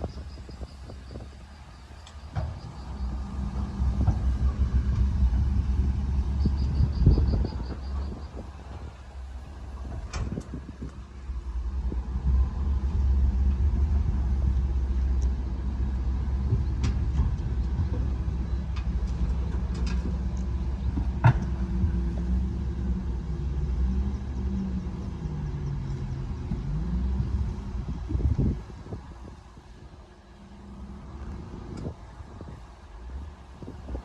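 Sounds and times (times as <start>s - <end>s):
bulldozer diesel engine rumbling: 0.0s - 34.0s.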